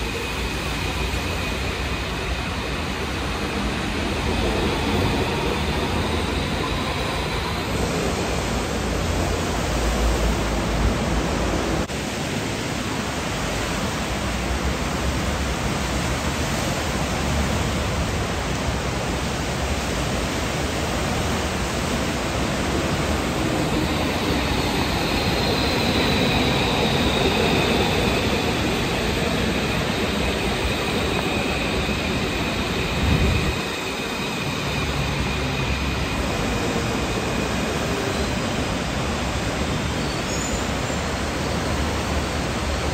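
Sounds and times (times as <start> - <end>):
heavy rain hissing: 0.0 - 42.9
train running on wet track: 0.0 - 42.9.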